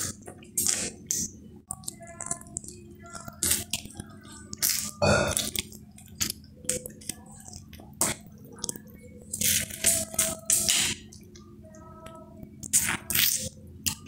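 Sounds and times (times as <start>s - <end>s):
wet mouth eating sounds: 0.0s - 11.4s, 12.6s - 14.0s.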